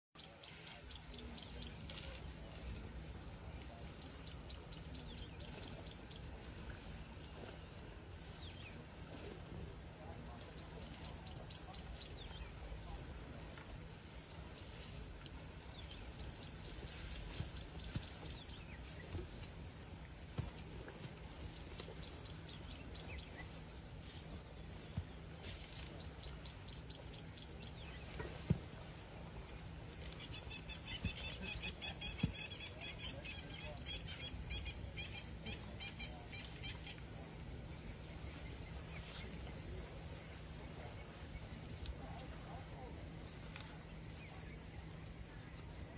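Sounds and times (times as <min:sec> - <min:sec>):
insects chirping: 0:00.2 - 0:45.9.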